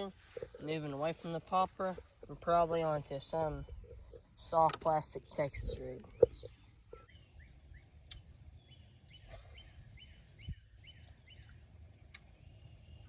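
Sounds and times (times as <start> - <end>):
faint low outdoor rumble: 0.0 - 13.0
bird chirping: 0.2 - 13.0.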